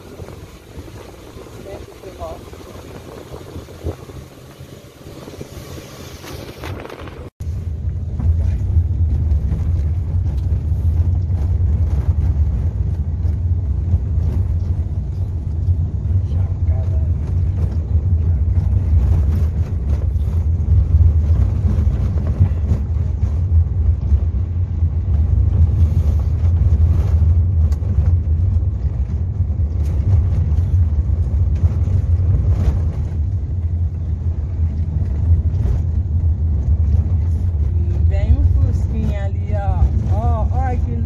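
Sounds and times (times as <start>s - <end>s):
vehicle engine and tyres rumbling: 0.0s - 41.0s.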